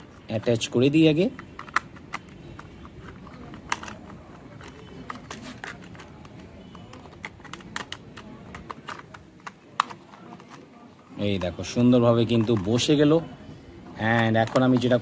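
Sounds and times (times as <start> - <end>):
plastic toy parts clicking: 0.5 - 10.6, 11.3 - 13.0, 14.0 - 15.0.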